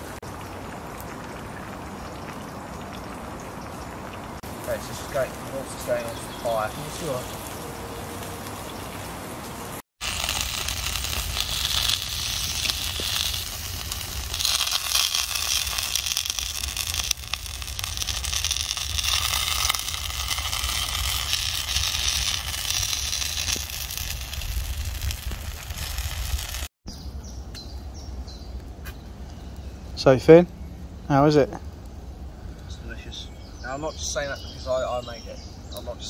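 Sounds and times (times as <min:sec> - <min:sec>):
campfire crackling: 0:00.0 - 0:26.7, 0:27.4 - 0:36.0.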